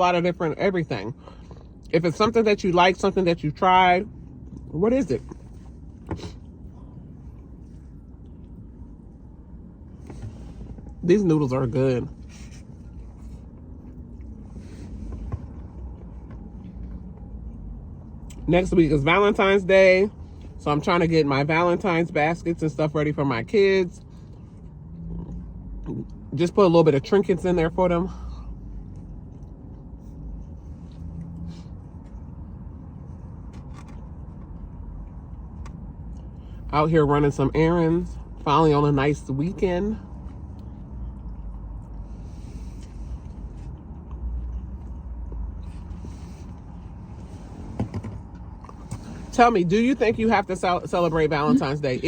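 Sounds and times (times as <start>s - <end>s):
car low rumble: 0.0s - 52.0s
chewing and eating noises: 1.1s - 21.1s, 23.4s - 36.7s, 37.6s - 49.3s.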